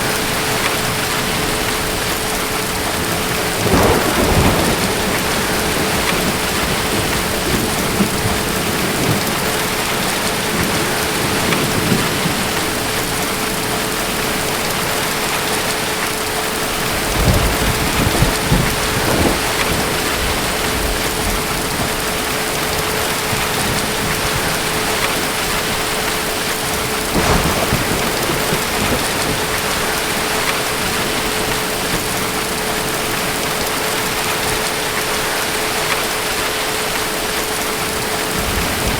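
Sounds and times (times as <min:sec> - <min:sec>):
distant thunder rolling: 0:00.0 - 0:38.9
steady rain: 0:00.0 - 0:38.9.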